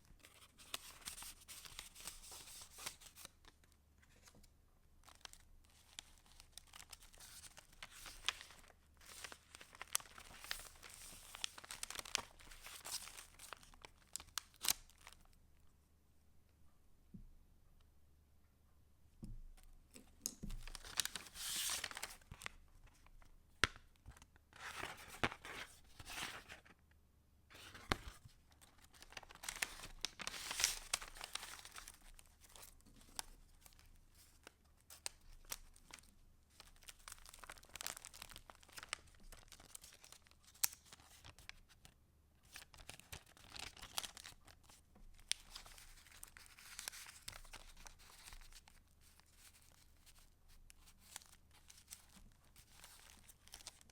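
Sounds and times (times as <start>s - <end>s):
paper pages rustling and crinkling: 0.2s - 15.3s, 20.4s - 26.8s, 27.5s - 53.9s.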